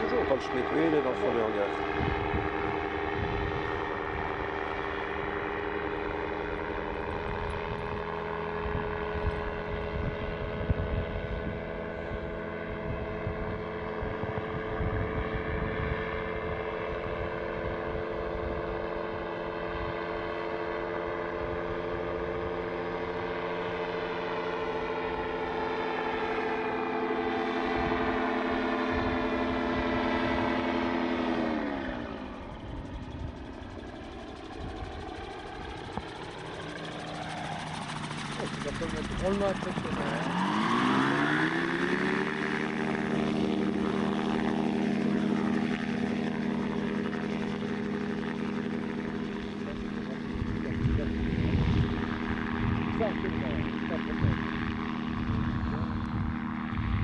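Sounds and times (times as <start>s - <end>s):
gyrocopter engine droning overhead: 0.0s - 57.0s.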